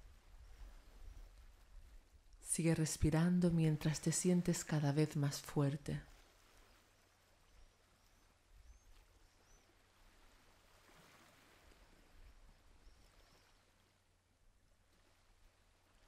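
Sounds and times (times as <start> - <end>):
faint background hiss: 0.0 - 16.0.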